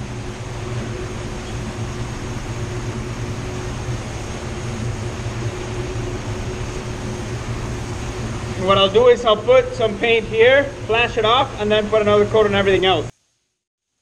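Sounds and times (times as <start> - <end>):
constant low hum: 0.0 - 13.1
ventilation air rush: 0.0 - 13.4.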